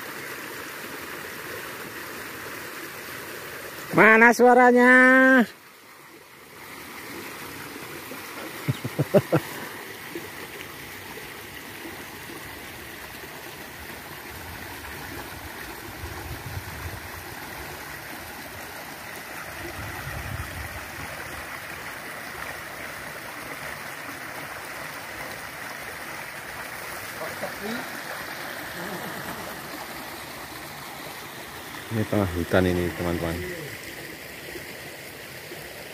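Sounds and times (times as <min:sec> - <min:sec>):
stream flowing over riffle: 0:00.0 - 0:35.9.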